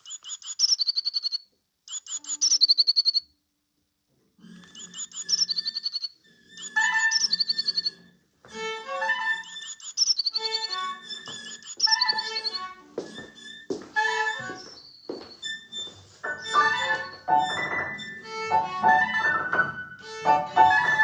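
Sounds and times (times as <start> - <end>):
bird song with chirps and trill: 0.0 - 3.3, 4.6 - 8.2, 8.9 - 18.3, 18.9 - 21.0.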